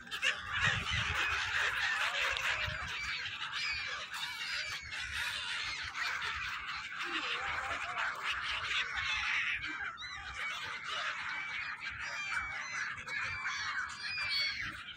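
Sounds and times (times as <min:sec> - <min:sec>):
flock of gulls calling: 0:00.0 - 0:14.9.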